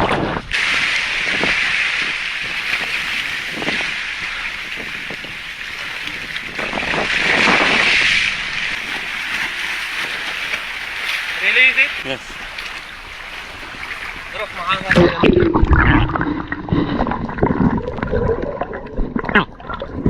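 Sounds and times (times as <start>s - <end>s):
wind and sea rushing: 0.0s - 20.0s.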